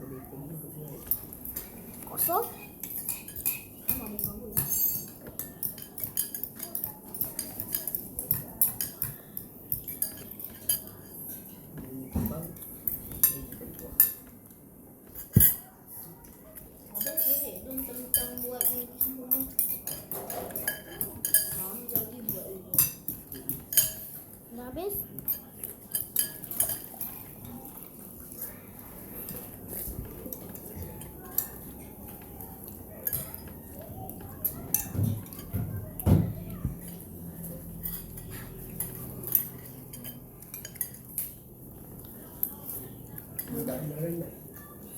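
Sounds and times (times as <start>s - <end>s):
cutlery clinking on bowls: 0.9s - 44.9s.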